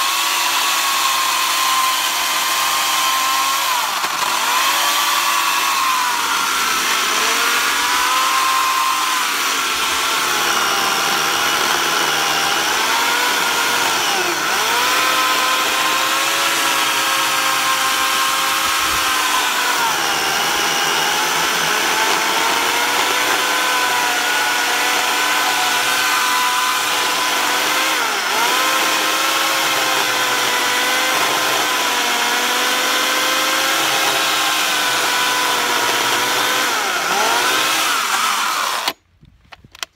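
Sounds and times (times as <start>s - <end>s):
chainsaw cutting log: 0.0s - 39.0s.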